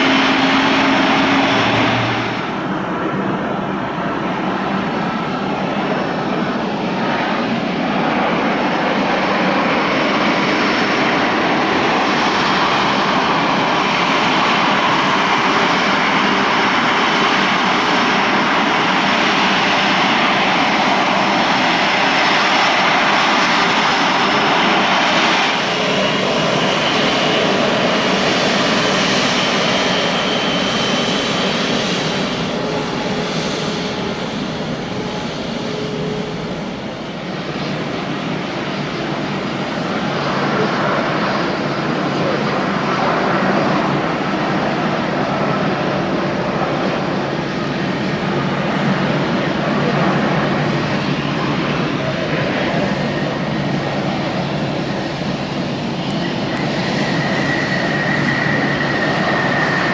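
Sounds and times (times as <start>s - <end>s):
jet engine rush on landing: 0.0s - 59.9s
jet engine whine taxiing: 0.0s - 59.9s.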